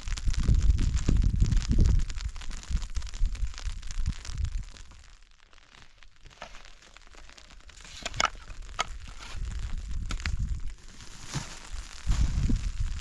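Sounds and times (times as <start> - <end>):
sharp cracks and crunches: 0.0 - 13.0.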